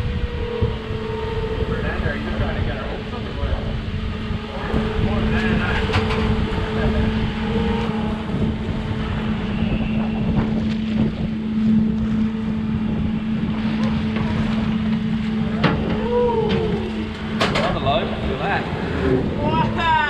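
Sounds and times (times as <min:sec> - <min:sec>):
boat engine running: 0:00.0 - 0:20.0
wind on microphone: 0:00.0 - 0:20.0.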